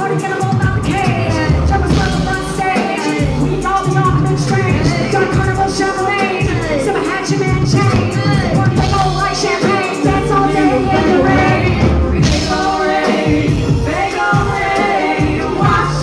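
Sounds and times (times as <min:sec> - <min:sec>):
heavy bass beat: 0:00.0 - 0:16.0
sung vocal melody: 0:00.0 - 0:16.0.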